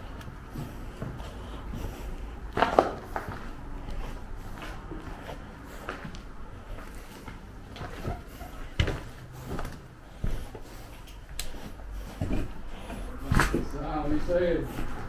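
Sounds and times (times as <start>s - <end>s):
footsteps crunching over rubble: 0.0s - 15.0s.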